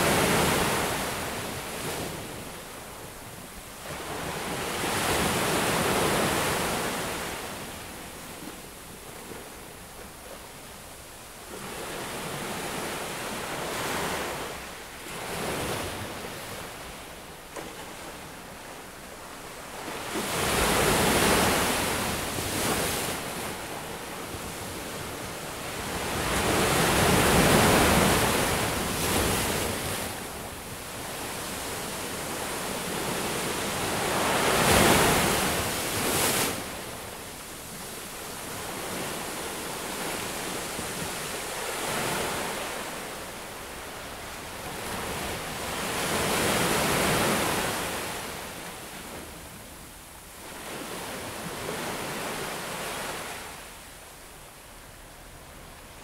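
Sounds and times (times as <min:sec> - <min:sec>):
ocean waves crashing on beach: 0:00.0 - 0:09.8, 0:11.4 - 0:49.8, 0:50.4 - 0:56.0.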